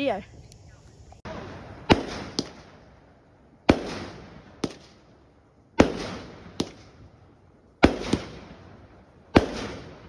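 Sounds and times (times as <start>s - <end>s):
fireworks bangs: 1.2s - 10.0s.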